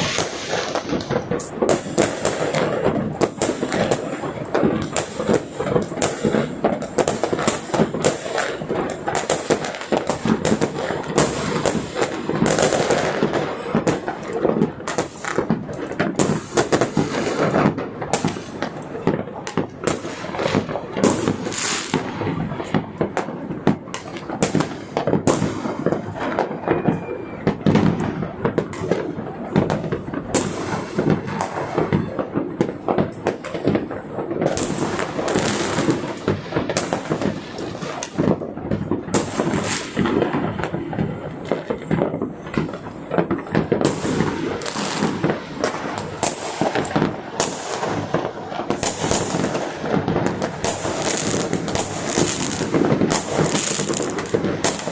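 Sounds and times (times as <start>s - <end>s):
fireworks and firecrackers exploding: 0.0s - 54.9s.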